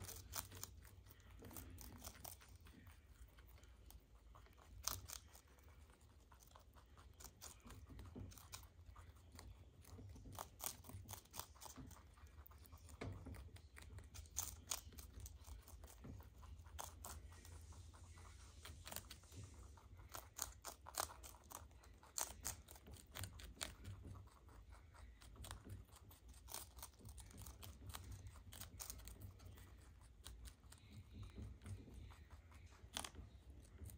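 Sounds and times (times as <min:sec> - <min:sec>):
rabbits chewing leaves: 0:00.0 - 0:33.9.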